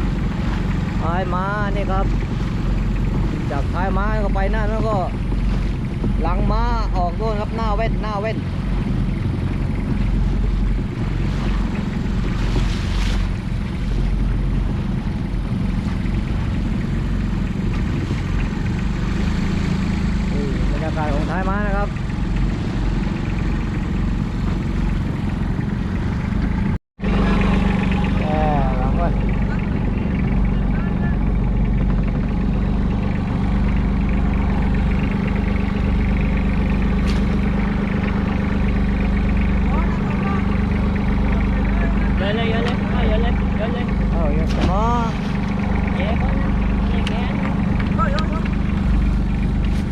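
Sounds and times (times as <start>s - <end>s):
boat engine humming: 0.0s - 49.9s.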